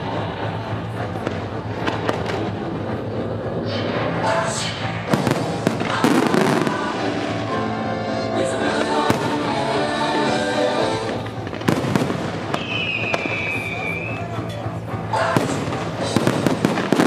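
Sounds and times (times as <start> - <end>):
music playing: 0.0 - 17.0
fireworks bursting with bangs: 0.5 - 7.9, 8.5 - 14.5, 15.1 - 17.0.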